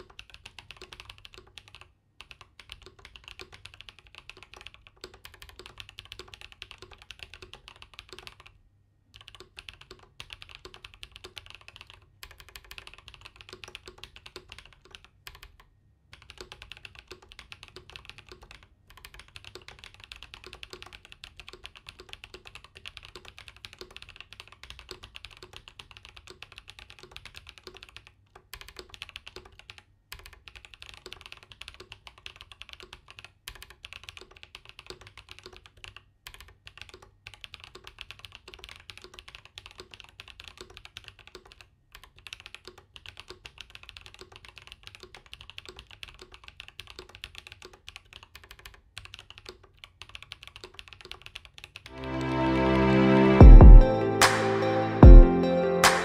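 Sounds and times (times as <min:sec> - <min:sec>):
fast typing on mechanical keyboard: 0:00.0 - 0:51.9.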